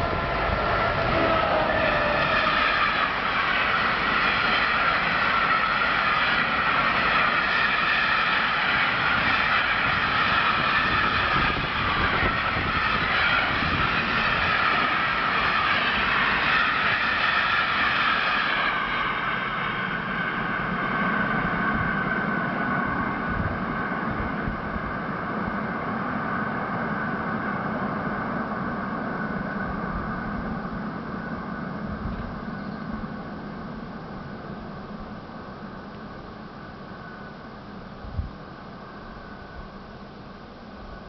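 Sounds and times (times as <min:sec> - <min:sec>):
freight train rushing past: 0:00.0 - 0:41.0.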